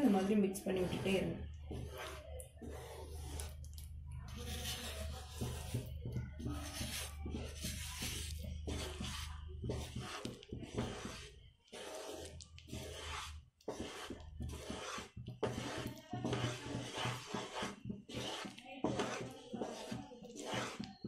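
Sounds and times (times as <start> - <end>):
wooden spatula scraping pan: 0.0 - 21.0.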